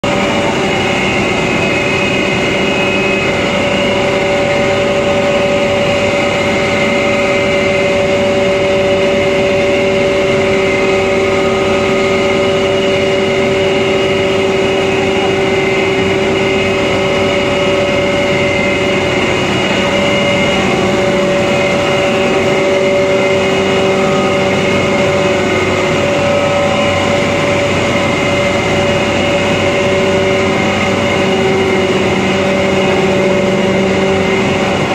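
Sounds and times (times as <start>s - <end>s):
grinding machine humming and whining: 0.0s - 34.9s.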